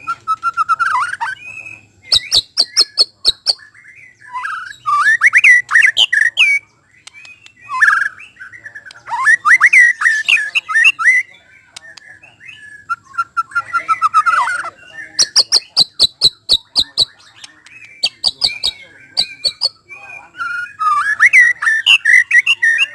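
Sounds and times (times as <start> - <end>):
bird sharp ticking notes: 0.0 - 22.9
bird whistling song: 0.0 - 22.9.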